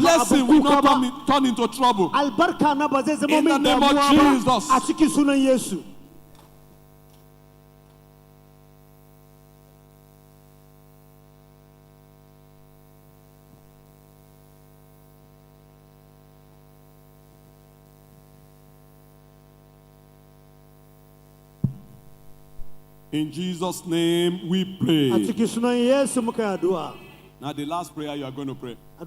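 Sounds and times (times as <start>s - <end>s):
faint electrical hum: 0.0s - 29.0s.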